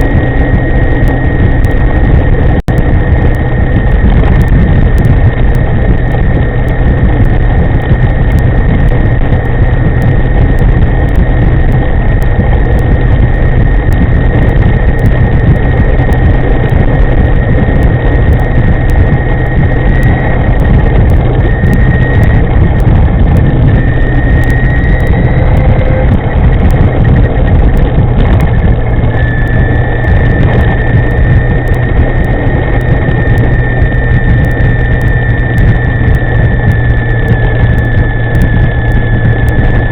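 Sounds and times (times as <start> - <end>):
electric scooter whine: 0.0 - 39.9
wind rushing over microphone: 0.0 - 39.9.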